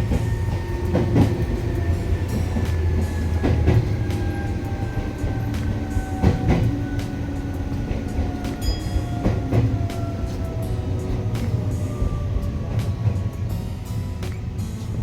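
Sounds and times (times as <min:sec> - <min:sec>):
electric train rumbling on rails: 0:00.0 - 0:15.0
wheels clicking over track: 0:00.0 - 0:15.0.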